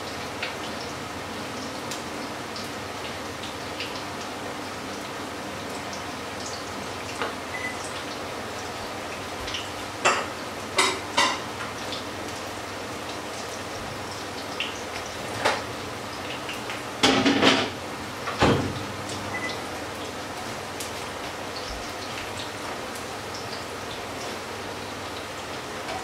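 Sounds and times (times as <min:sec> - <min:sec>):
pancakes sizzling in oil: 0:00.0 - 0:26.0.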